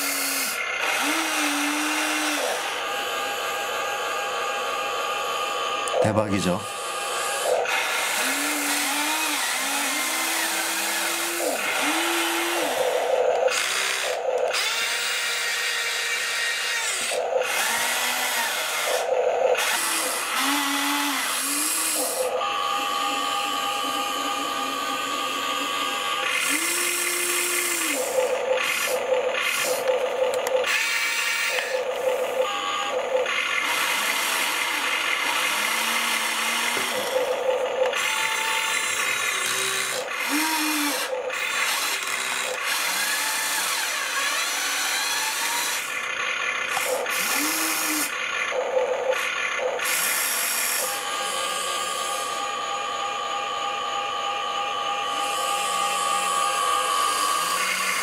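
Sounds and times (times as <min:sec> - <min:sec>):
electric motors whining: 0:00.0 - 0:58.0.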